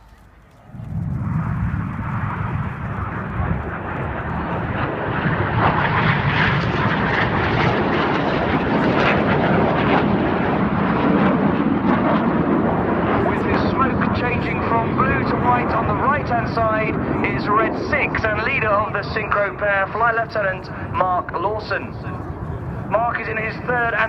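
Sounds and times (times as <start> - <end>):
jets flying past: 0.0 - 24.0.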